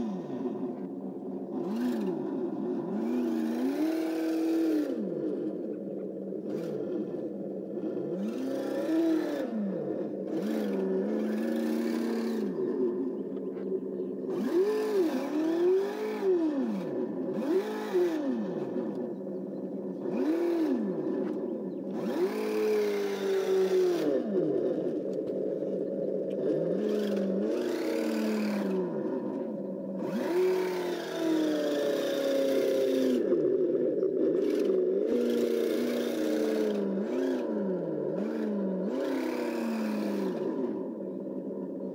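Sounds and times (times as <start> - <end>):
simulated engine revving: 0.0 - 41.9
steady running hum: 0.0 - 41.9.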